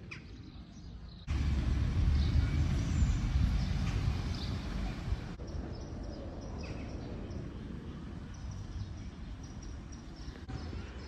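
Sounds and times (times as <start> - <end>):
small birds chirping: 0.0 - 11.0
low outdoor rumble: 1.2 - 10.9.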